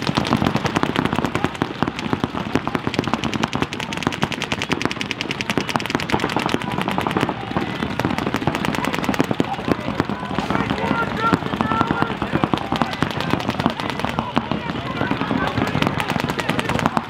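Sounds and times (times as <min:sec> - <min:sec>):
paintball markers firing rapidly: 0:00.0 - 0:17.0.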